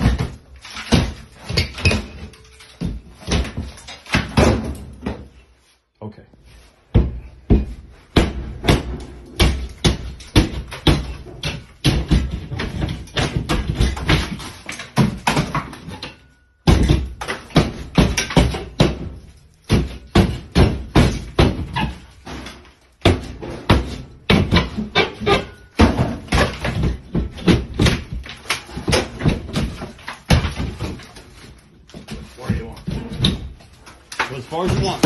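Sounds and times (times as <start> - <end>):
plaster hook breaking ceiling board: 0.0 - 5.3, 7.0 - 35.0.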